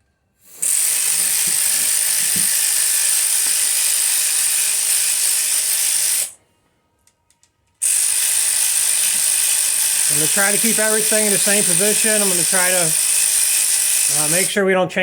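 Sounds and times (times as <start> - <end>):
power ratchet hissing: 0.4 - 6.4, 7.8 - 14.6.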